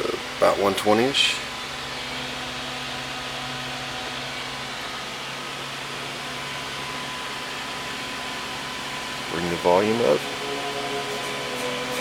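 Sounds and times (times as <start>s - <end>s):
amplifier hiss: 0.0s - 12.0s
amplifier mains hum: 0.0s - 12.0s.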